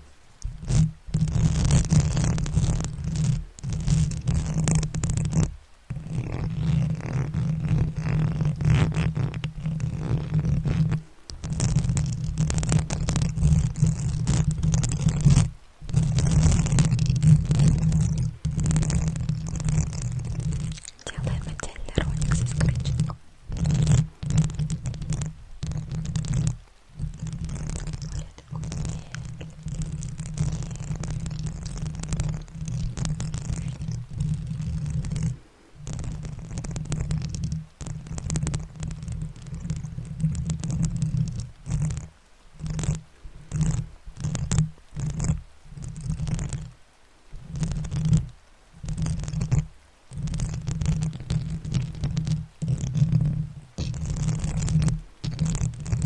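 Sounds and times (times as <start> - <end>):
scratching at microphone: 0.0 - 46.8, 47.4 - 56.0.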